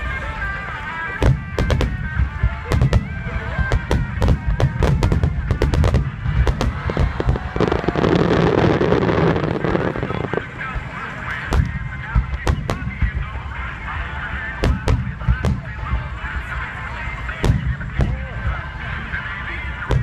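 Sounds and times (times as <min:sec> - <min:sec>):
background music: 0:00.0 - 0:20.0
fireworks crackling: 0:00.0 - 0:20.0.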